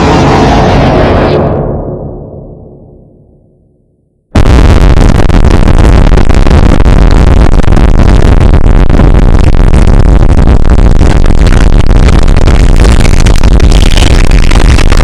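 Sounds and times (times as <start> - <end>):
loud distorted noise: 0.0 - 3.0, 4.3 - 15.0.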